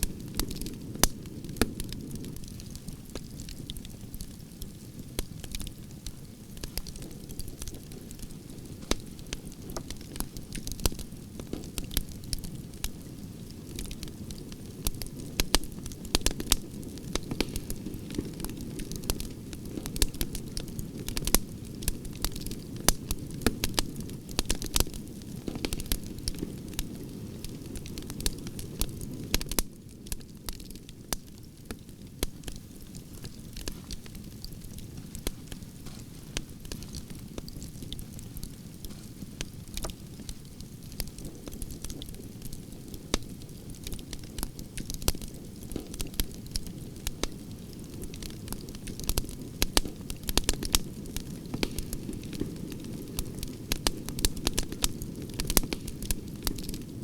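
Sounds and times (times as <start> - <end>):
campfire popping and snapping: 0.0 - 57.0
low rush of flames: 0.1 - 57.0.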